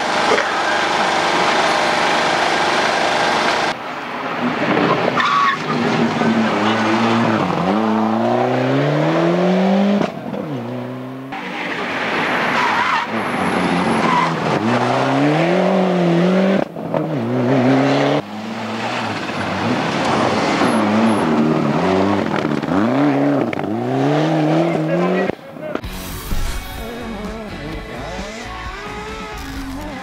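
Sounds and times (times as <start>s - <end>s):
rally car engine revving: 4.4s - 30.0s.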